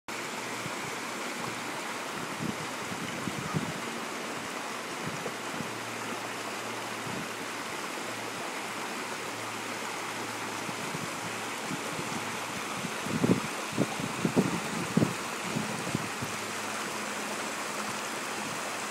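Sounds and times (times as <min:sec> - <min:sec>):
creek babbling over rocks: 0:00.1 - 0:18.9.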